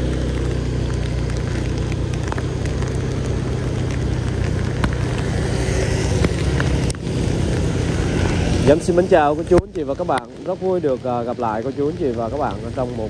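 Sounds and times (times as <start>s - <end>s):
rain hissing: 0.0s - 13.0s
raindrops ticking: 0.0s - 13.0s
traffic hum: 0.0s - 13.0s.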